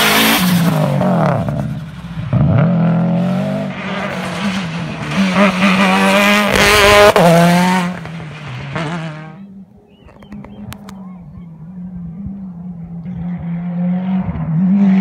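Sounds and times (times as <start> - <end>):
racing car passing at full throttle: 0.0 - 9.6, 11.6 - 15.0.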